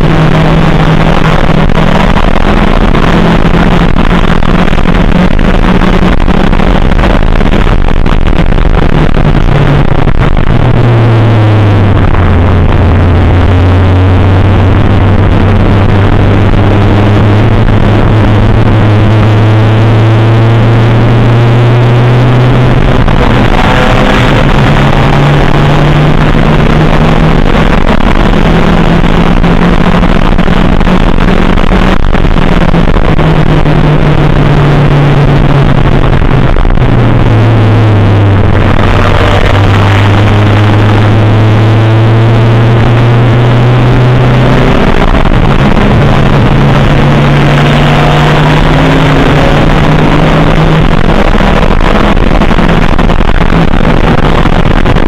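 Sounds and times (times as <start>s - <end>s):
distorted race car engine: 0.0s - 55.0s.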